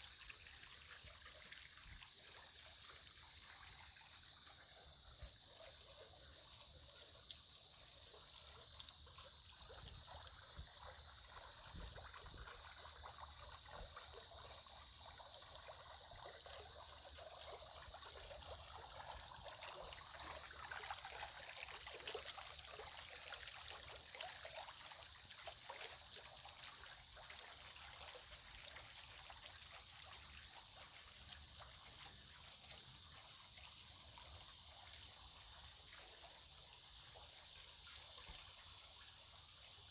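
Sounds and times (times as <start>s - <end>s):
high-pitched insect chorus: 0.0s - 39.9s
water trickling and splashing: 0.0s - 39.9s.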